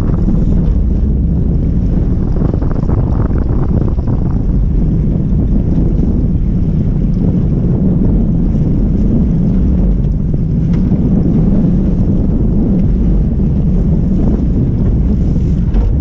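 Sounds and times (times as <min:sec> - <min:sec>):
waves against boat hull: 0:00.0 - 0:16.0
wind buffeting microphone: 0:00.0 - 0:16.0.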